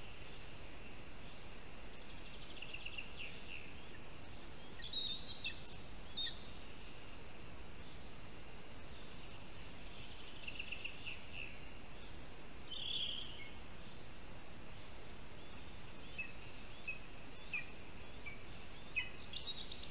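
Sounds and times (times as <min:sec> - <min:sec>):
bird calls: 0:00.0 - 0:07.0, 0:08.9 - 0:14.1, 0:14.7 - 0:19.9
forest ambience hiss: 0:00.0 - 0:19.9.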